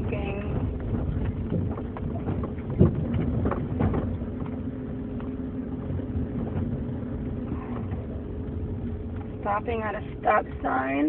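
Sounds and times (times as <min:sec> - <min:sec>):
car road and engine noise: 0:00.0 - 0:11.0
suspension clunks: 0:00.0 - 0:11.0.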